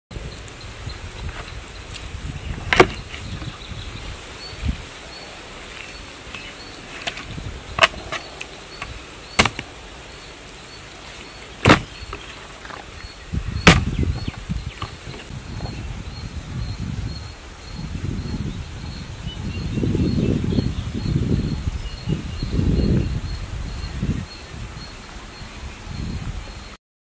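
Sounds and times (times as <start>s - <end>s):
insect chirping: 0.2s - 26.8s.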